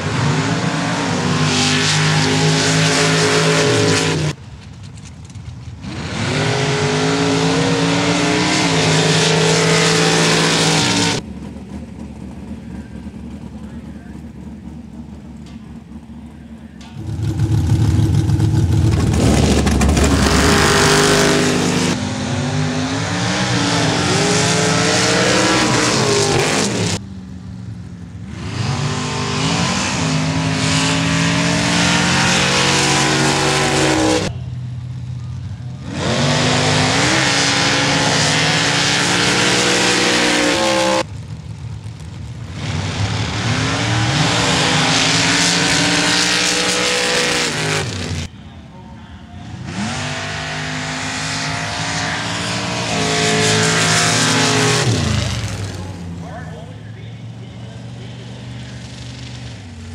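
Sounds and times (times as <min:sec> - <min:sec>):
race vehicle engines revving: 0:00.0 - 0:59.9.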